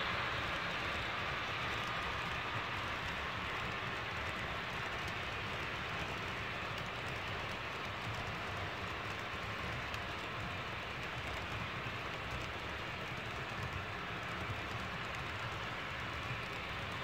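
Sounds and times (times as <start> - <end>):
model train cars rolling on track: 0.0 - 17.0.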